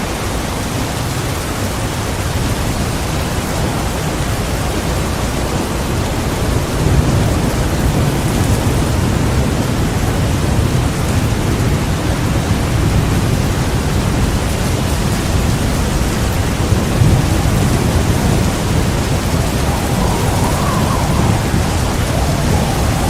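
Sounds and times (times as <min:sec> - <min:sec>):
heavy rain: 0:00.0 - 0:23.0
low rumble of thunder: 0:00.0 - 0:23.0
wavering whistle of wind: 0:02.0 - 0:23.0.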